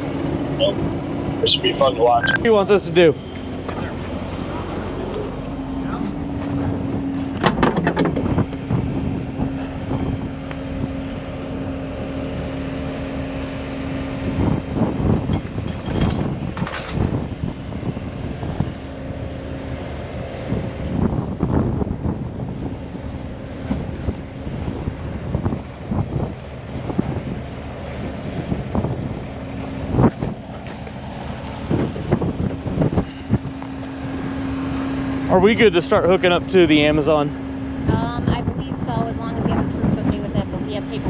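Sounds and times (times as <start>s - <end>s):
truck engine running: 0.0s - 41.0s
wind buffeting microphone: 0.0s - 41.0s.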